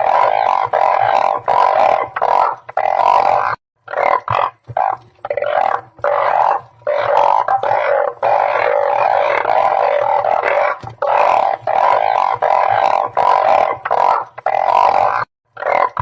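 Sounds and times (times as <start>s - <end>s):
frogs croaking in chorus: 0.0s - 16.0s.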